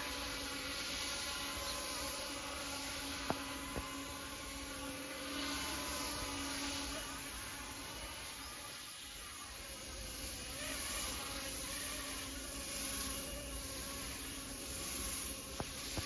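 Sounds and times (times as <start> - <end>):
rc helicopter rotor humming drone: 0.0 - 16.0.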